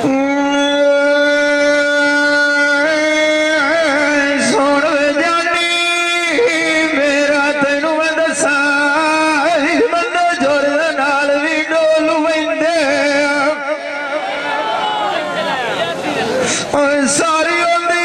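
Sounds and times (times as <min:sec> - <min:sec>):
man singing into a microphone: 0:00.0 - 0:14.6, 0:16.4 - 0:18.0.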